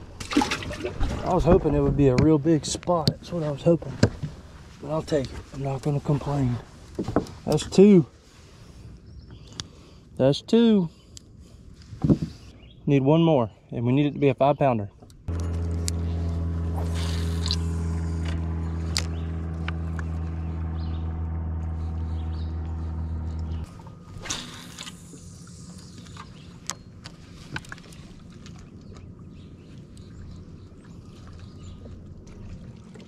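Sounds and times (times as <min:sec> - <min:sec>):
boat motor hum: 0:00.0 - 0:10.1, 0:15.0 - 0:33.0.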